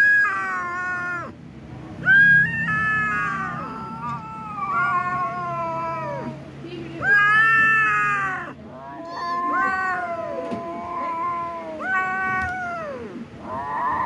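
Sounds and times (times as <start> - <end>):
kittens yowling: 0.0 - 1.4, 2.0 - 14.0.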